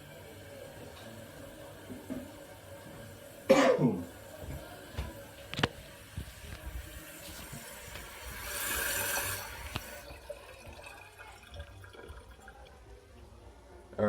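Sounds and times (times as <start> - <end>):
water trickling in toilet tank: 0.0 - 13.4.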